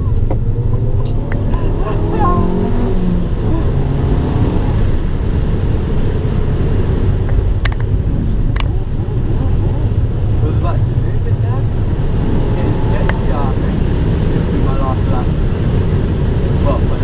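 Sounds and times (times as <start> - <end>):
car engine rumbling at speed: 0.0 - 17.0.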